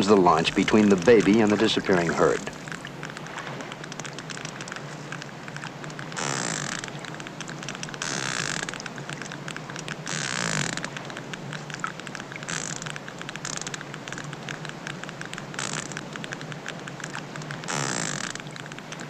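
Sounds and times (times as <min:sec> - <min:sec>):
whale clicking underwater: 0:00.0 - 0:19.0.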